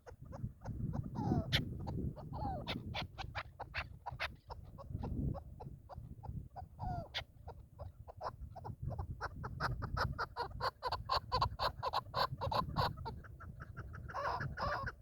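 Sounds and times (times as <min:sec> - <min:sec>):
partridge clucking calls: 0:00.0 - 0:15.0.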